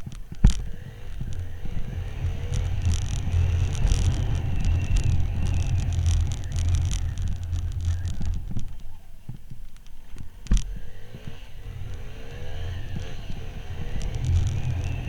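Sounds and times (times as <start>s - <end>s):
motorcycle engine hum: 0.0s - 15.0s
road noise: 0.0s - 15.0s.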